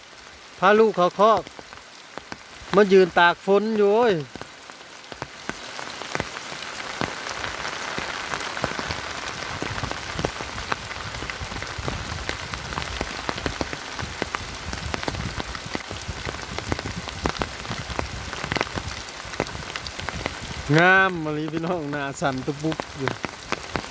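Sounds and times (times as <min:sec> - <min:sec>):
hiss of downpour: 0:00.0 - 0:23.9
raindrops ticking: 0:00.0 - 0:23.9.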